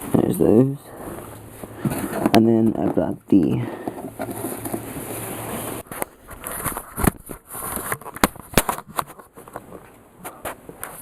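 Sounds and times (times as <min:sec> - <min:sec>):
handling rustle: 0:01.0 - 0:11.0.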